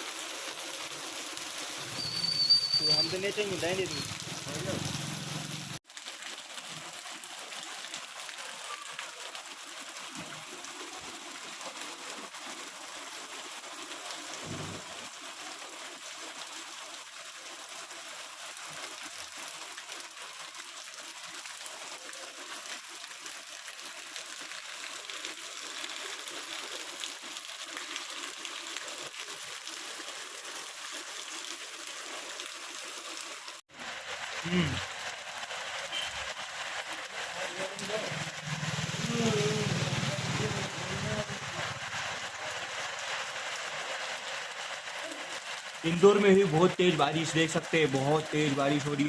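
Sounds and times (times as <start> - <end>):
heavy rain: 0.0 - 49.0
running water: 0.0 - 49.0.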